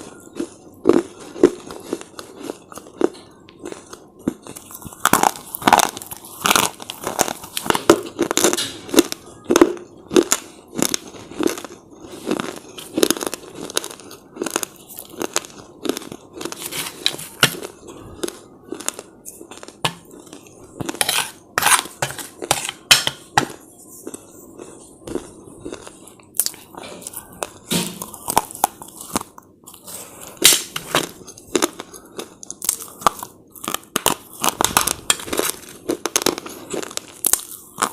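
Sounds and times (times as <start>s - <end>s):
crunching and chewing: 0.0s - 37.9s.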